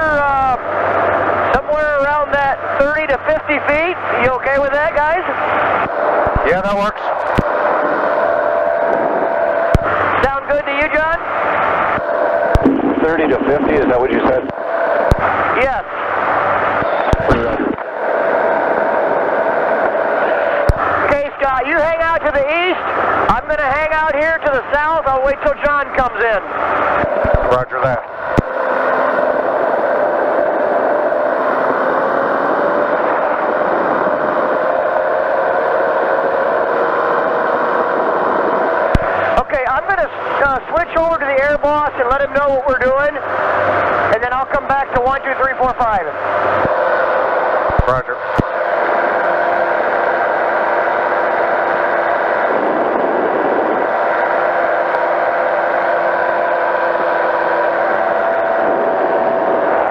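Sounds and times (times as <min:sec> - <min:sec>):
engine and propeller drone: 0:00.0 - 0:59.9
rushing noise: 0:00.0 - 0:59.9
steady radio tones: 0:00.0 - 0:59.9.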